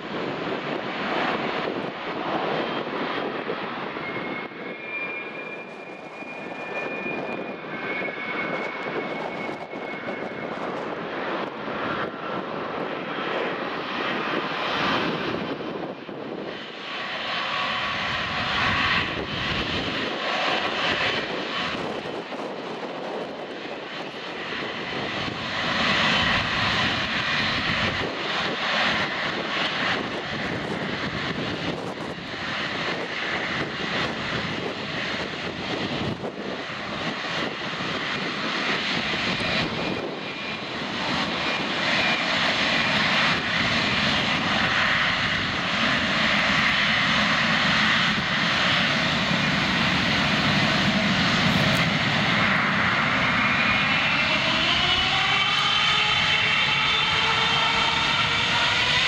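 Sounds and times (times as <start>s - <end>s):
jet engines roaring with high whine: 0.0s - 59.0s.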